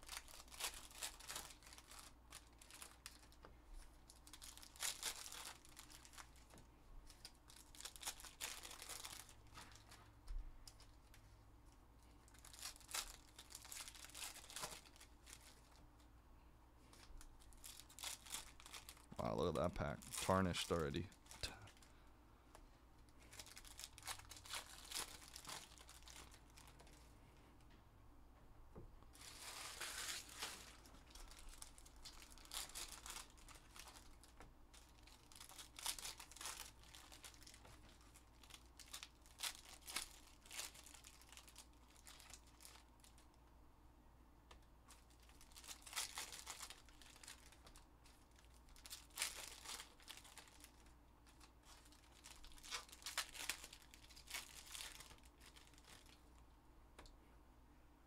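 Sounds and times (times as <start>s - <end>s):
foil wrappers crinkling: 0.0s - 10.0s, 12.2s - 15.8s, 16.8s - 22.0s, 23.0s - 27.0s, 29.1s - 43.3s, 44.9s - 56.4s.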